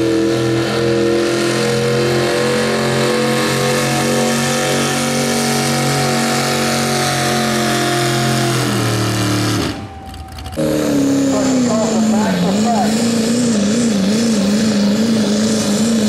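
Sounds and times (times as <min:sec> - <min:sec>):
pickup engine at high revs: 0:00.0 - 0:09.9, 0:10.6 - 0:16.0.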